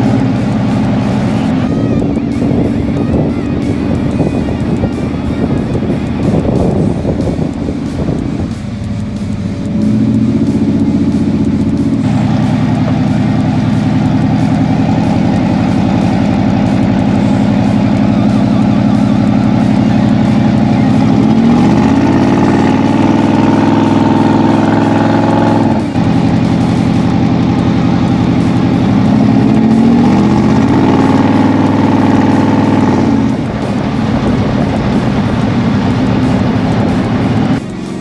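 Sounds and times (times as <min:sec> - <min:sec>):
pickup engine revving: 0:00.0 - 0:38.0.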